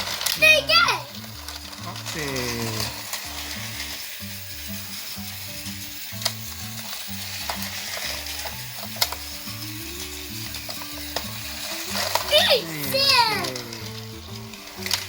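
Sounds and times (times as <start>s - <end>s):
quiet background music: 0.0s - 15.0s
toy train whirring rattle: 0.0s - 15.0s.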